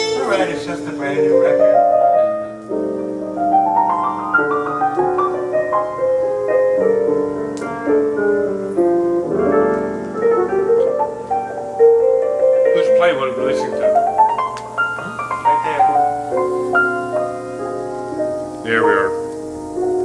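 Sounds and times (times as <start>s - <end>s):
piano music over stereo: 0.0s - 20.0s.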